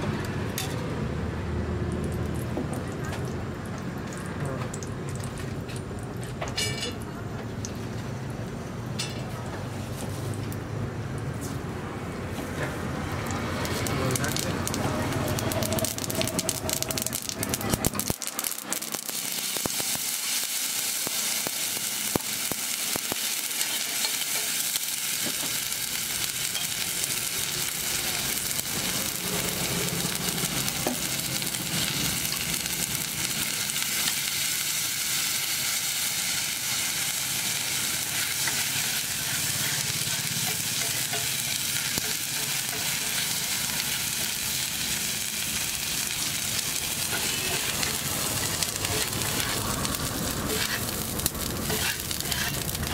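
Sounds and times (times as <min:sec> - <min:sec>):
oil sizzling on griddle: 0:00.0 - 0:11.6, 0:12.4 - 0:52.9.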